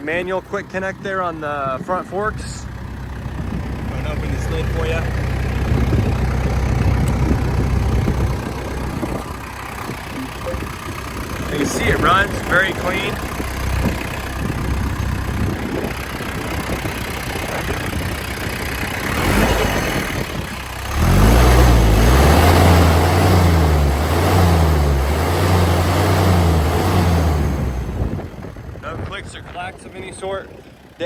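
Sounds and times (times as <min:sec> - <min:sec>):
tractor diesel engine idling: 0:00.0 - 0:31.0.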